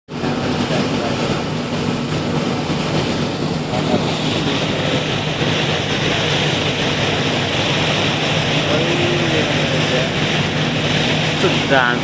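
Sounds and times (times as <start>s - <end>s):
ferry engine humming: 0.1s - 12.0s
loud rushing noise: 0.1s - 12.0s.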